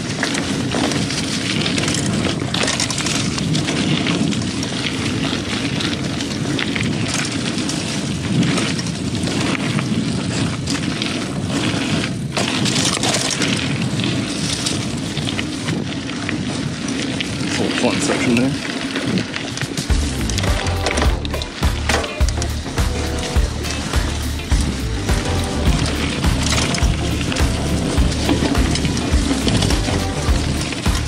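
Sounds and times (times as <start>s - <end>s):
bike knocks and rattles: 0.0s - 31.0s
tyre noise on dirt trail: 0.0s - 31.0s
wind buffeting microphone: 0.0s - 31.0s.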